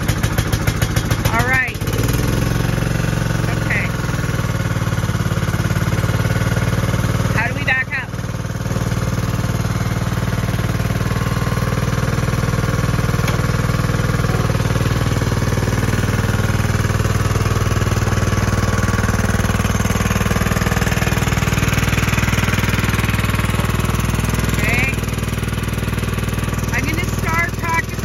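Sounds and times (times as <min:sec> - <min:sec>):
lawn tractor engine running: 0:00.0 - 0:28.0.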